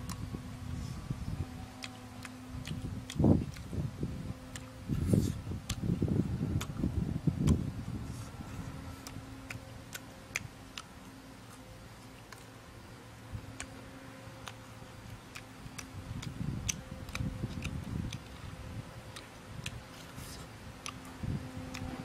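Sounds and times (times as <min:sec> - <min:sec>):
mouth clicks and smacks chewing: 0:00.0 - 0:00.3, 0:01.6 - 0:22.0
faint steady hum: 0:00.0 - 0:22.0.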